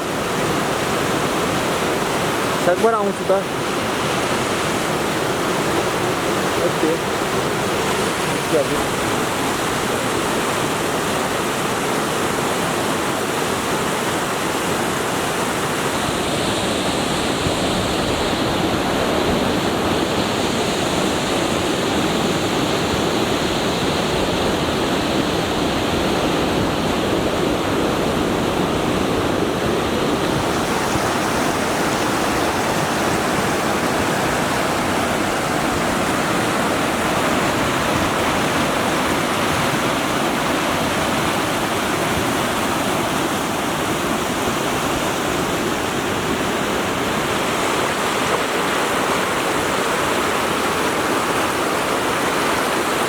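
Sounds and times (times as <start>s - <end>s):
fast-flowing stream rushing: 0.0s - 53.0s.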